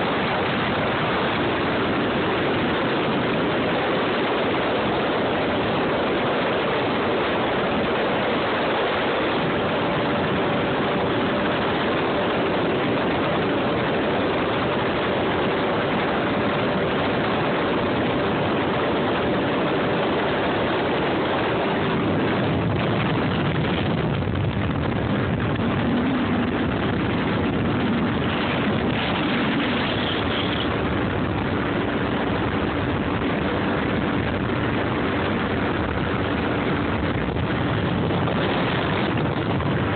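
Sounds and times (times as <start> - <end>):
dense rushing noise: 0.0 - 39.9
jet ski engine running: 0.0 - 39.9.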